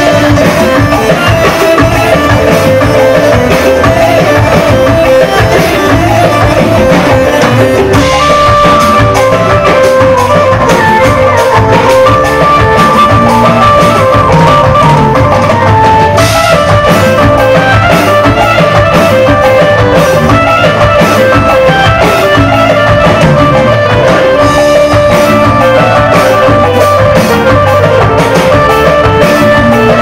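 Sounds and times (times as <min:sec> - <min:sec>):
loud dance music: 0:00.0 - 0:30.0.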